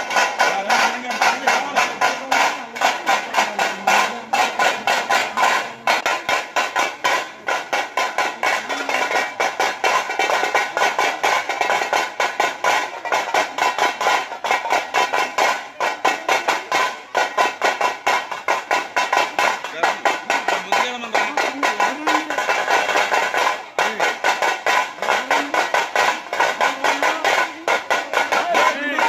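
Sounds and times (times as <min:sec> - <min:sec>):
drums fast steady beat: 0:00.0 - 0:29.0.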